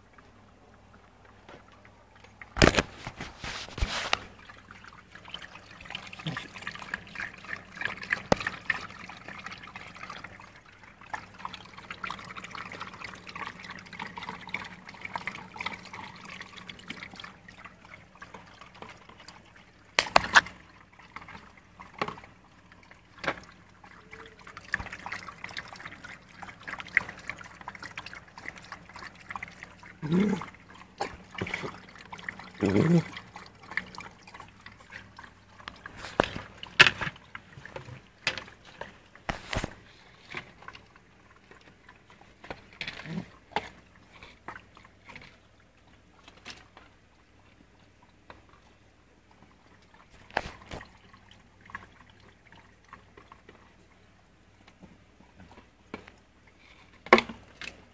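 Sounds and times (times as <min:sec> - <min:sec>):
dog eating with wet mouth sounds: 0:00.7 - 0:57.9.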